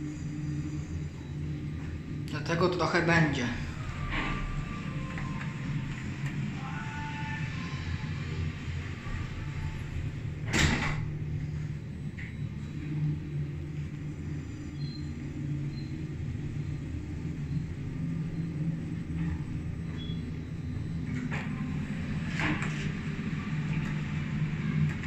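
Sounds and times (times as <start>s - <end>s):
lift low rumble: 0.0s - 25.0s.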